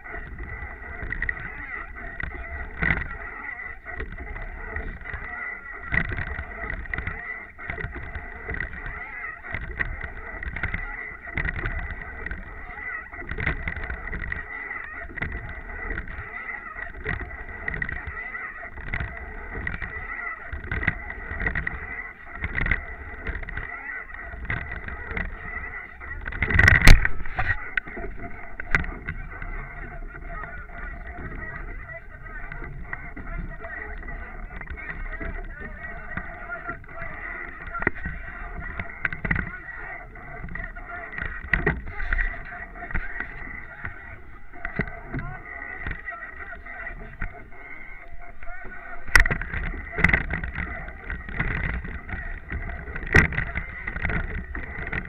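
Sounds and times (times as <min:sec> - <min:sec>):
water rushing along a boat bow: 0:00.0 - 0:55.0
wind buffeting microphone: 0:00.0 - 0:55.0.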